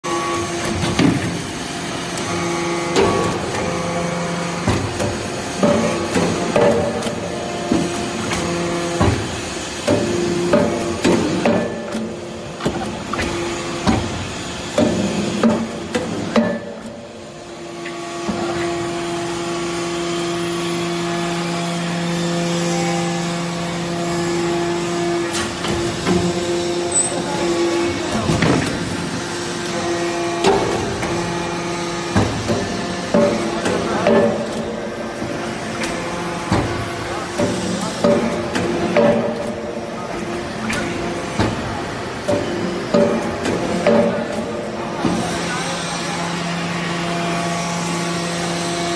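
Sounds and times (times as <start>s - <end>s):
hydraulic pump hum: 0.0s - 48.9s.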